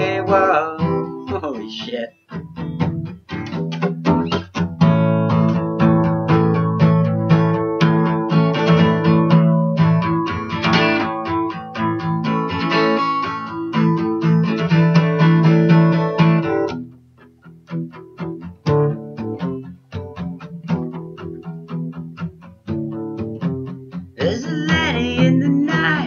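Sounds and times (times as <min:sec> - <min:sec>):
acoustic guitar strumming: 0:00.0 - 0:26.0
guitar plucked notes: 0:00.0 - 0:26.0.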